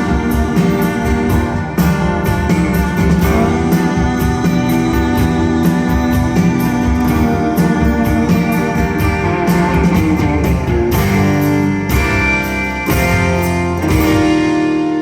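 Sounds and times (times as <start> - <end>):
band playing guitar-led rock: 0.0 - 15.0
drums: 0.0 - 15.0.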